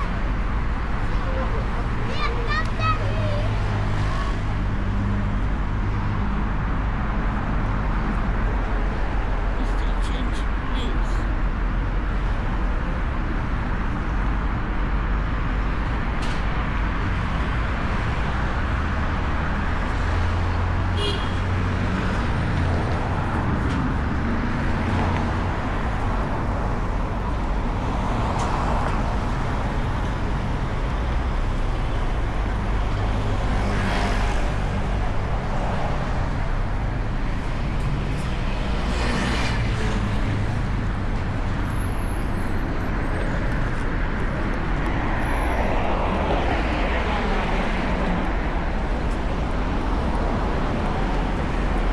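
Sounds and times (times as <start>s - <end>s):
traffic rumble: 0.0s - 51.9s.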